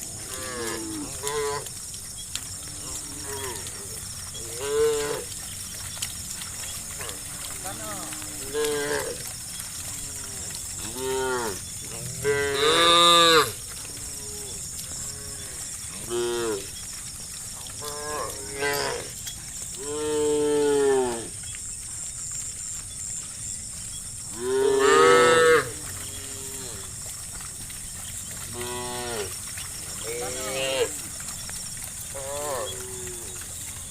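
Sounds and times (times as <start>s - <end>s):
cows mooing: 0.0s - 1.8s, 2.4s - 16.8s, 17.6s - 21.4s, 24.3s - 33.9s.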